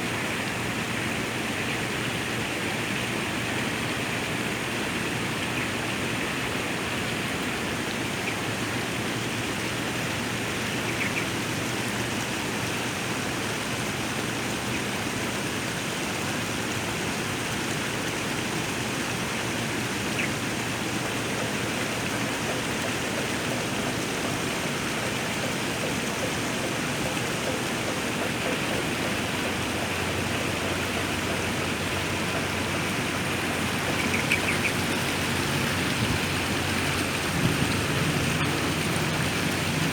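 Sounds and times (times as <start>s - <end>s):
waterfall pouring: 0.2s - 39.9s.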